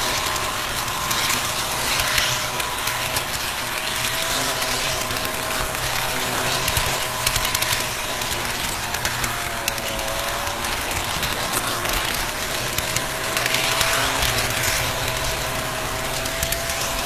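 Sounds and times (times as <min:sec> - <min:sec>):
model train motor whirring: 0:00.0 - 0:17.0
quick clicks: 0:00.0 - 0:17.0
wheel rattle: 0:00.0 - 0:17.0.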